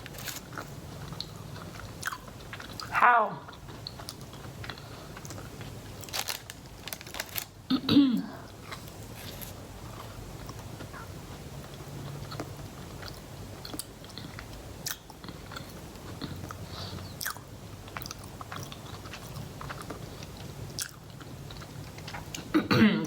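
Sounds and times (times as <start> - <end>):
crunchy cookie chewing: 0.0 - 7.7, 8.4 - 22.6
low steady hum: 0.0 - 23.0.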